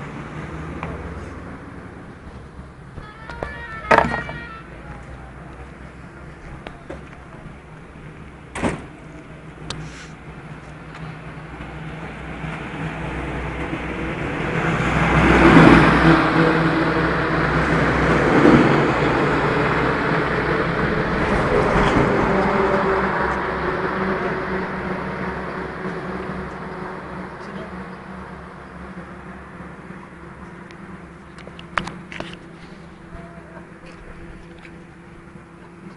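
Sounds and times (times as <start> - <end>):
lorries passing: 0.0 - 35.9.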